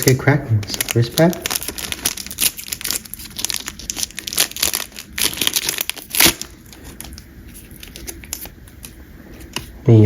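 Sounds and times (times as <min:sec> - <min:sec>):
wrapper crinkling torn open: 0:00.0 - 0:08.9.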